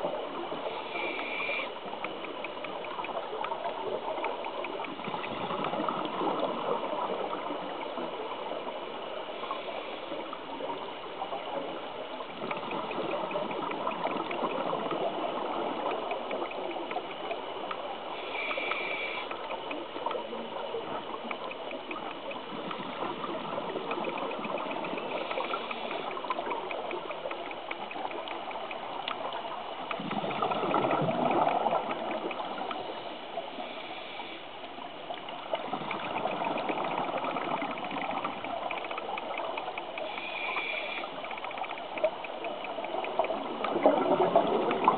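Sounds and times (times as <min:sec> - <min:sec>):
underwater bubbles gurgling: 0:00.0 - 0:44.9.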